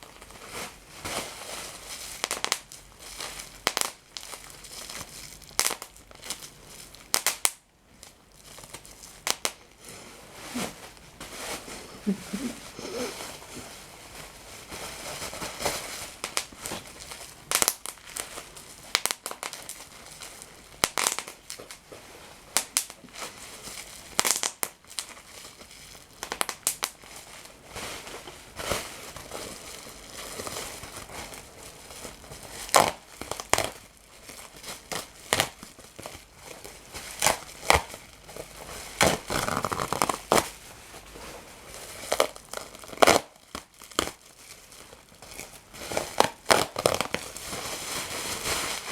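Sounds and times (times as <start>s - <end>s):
crinkly material being crumpled: 0.0s - 48.9s.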